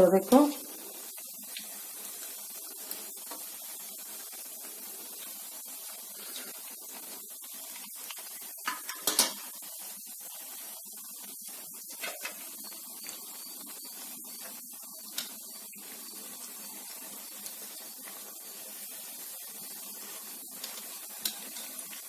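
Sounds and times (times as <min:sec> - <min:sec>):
food deep-frying in hot oil: 0:00.0 - 0:22.0.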